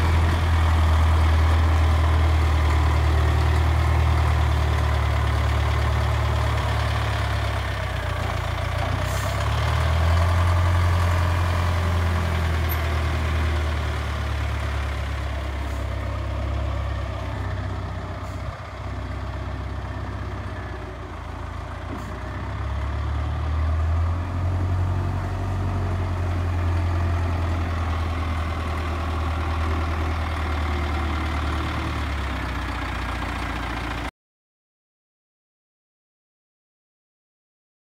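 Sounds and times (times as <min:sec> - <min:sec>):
wheel loader diesel engine revving: 0:00.0 - 0:34.1.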